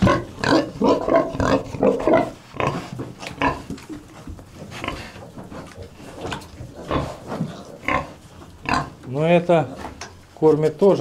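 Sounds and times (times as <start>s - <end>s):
pigs grunting: 0.0s - 10.0s.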